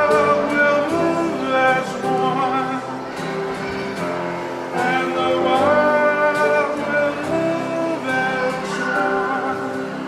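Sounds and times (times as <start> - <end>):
guitar accompaniment: 0.0 - 10.0
person singing: 0.0 - 10.0.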